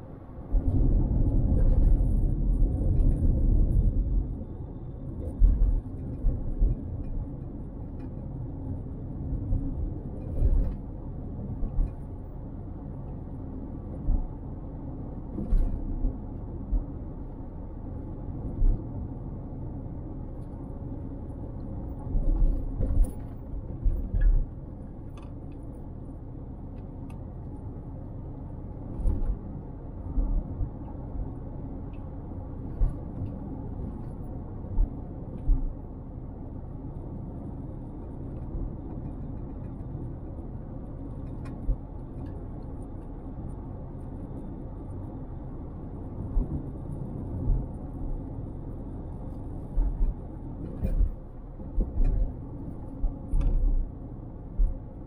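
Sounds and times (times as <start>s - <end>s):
car driving rumble: 0.0s - 55.0s.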